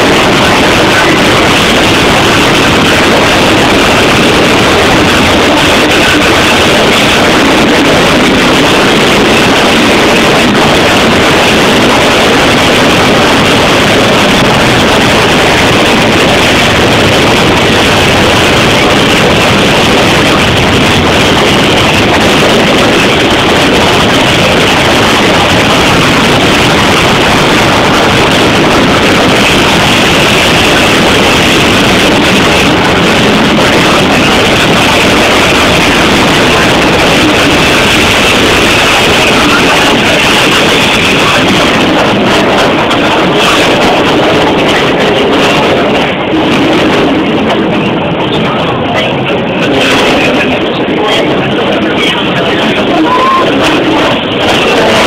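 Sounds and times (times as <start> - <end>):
train rushing noise: 0.0 - 55.0
wind on microphone: 0.0 - 55.0.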